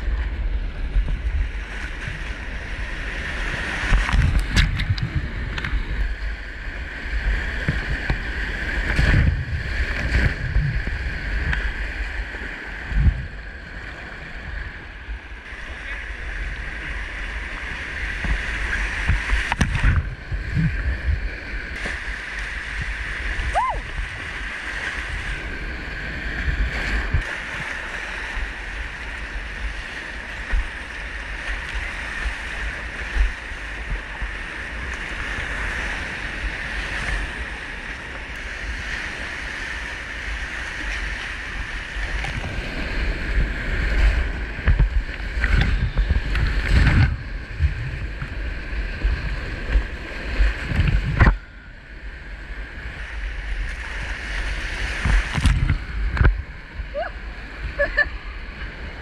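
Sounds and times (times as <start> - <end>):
waves splashing against microphone: 0.0 - 59.0.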